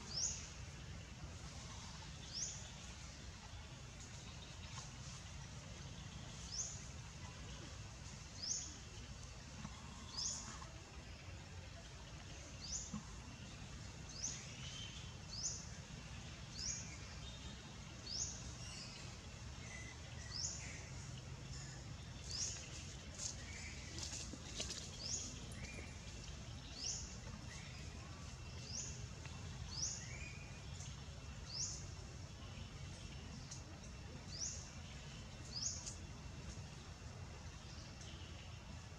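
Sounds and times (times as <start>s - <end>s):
low outdoor rumble: 0.0s - 38.9s.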